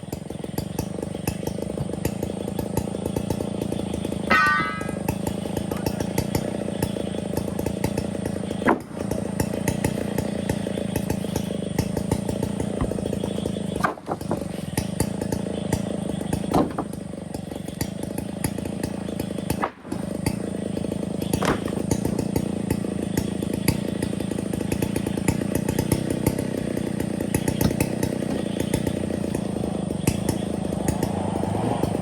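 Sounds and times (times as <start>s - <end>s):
chainsaw running at high revs: 0.0s - 32.0s.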